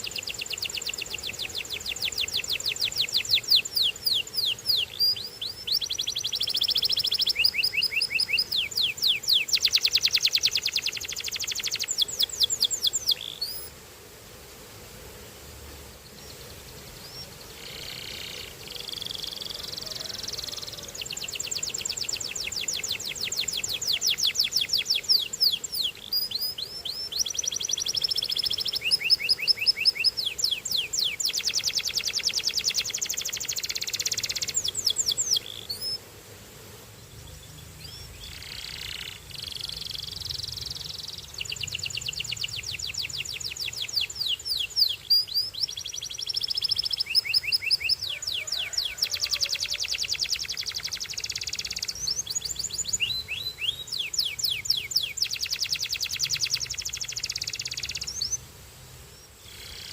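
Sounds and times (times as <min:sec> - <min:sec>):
canary singing trills: 0:00.0 - 0:13.7, 0:16.2 - 0:36.0, 0:37.2 - 0:58.4.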